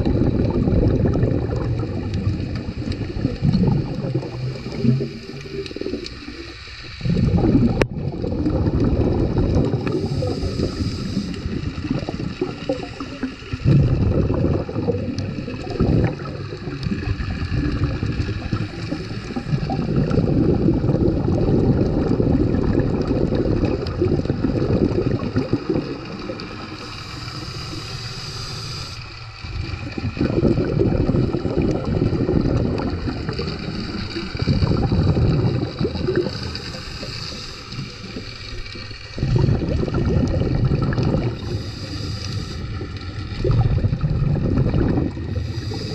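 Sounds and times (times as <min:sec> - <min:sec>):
underwater rumble and gurgle: 0:00.0 - 0:45.9.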